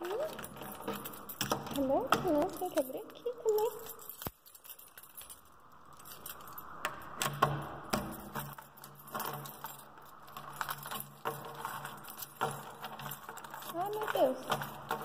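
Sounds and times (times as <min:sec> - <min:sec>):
keys jangling: 0:00.0 - 0:15.0.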